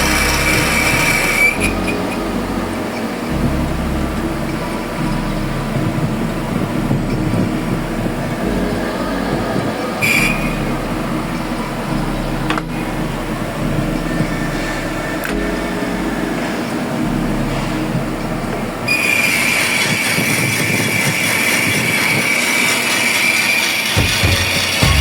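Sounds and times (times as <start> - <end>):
high-pitched squeal: 0.0 - 25.0
metalworking machinery humming: 0.0 - 25.0.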